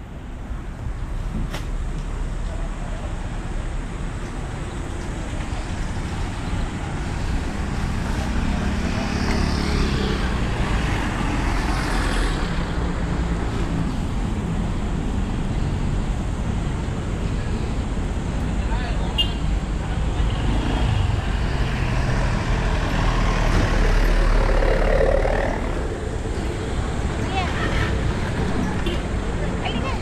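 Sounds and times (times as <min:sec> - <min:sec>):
rumbling background noise: 0:00.0 - 0:30.0.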